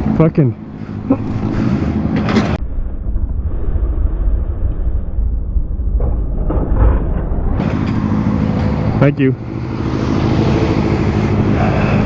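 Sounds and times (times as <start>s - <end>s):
vehicle and road rumble: 0.0s - 12.0s.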